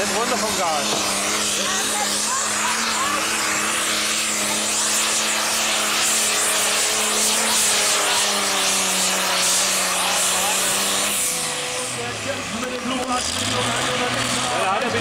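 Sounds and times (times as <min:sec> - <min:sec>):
tractor engine under heavy load: 0:00.0 - 0:15.0.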